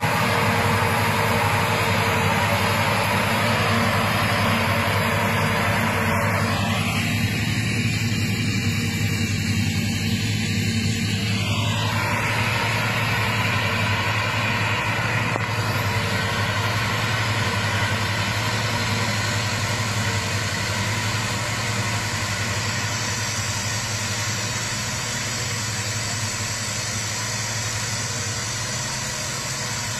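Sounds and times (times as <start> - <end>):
harvester engine drone: 0.0 - 29.9.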